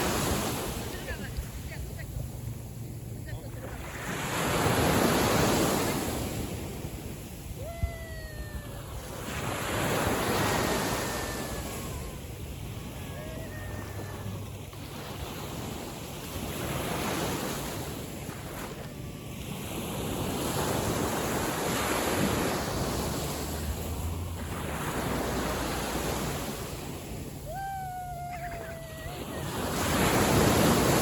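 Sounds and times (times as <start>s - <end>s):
small waves breaking on shore: 0.0s - 31.0s
wind rumbling on microphone: 0.0s - 31.0s.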